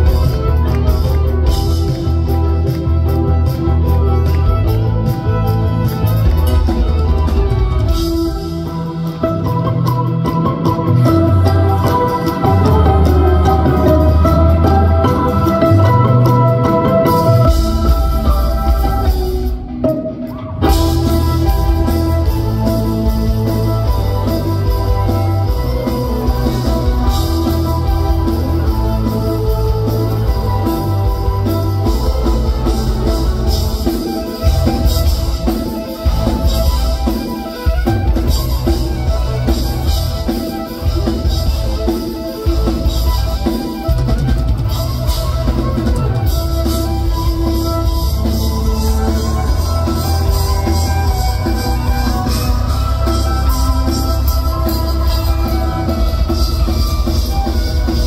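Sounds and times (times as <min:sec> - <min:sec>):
drum kit: 0:00.0 - 0:58.0
electric guitar: 0:00.0 - 0:58.0
violin: 0:00.0 - 0:58.0.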